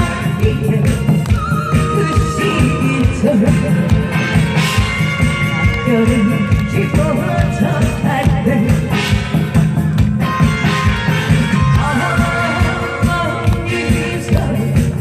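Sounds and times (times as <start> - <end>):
backing track with steady beat: 0.0 - 15.0.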